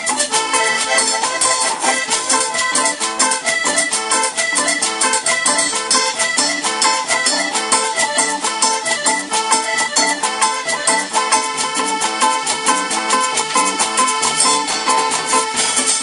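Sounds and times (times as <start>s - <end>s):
fast percussion beat: 0.0s - 16.0s
live dance band playing: 0.0s - 16.0s.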